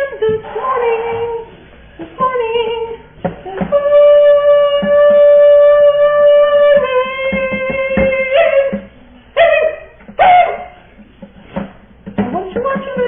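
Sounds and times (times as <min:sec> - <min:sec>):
woman singing high notes: 0:00.0 - 0:10.8.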